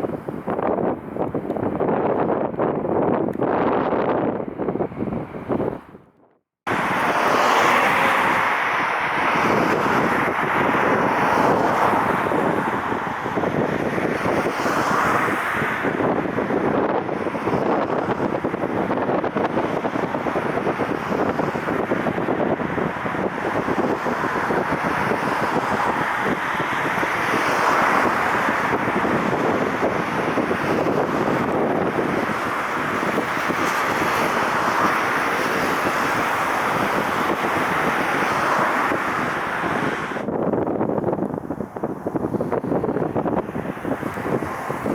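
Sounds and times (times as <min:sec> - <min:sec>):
wind on microphone: 0:00.0 - 0:44.9
jet engine noise: 0:06.7 - 0:44.9.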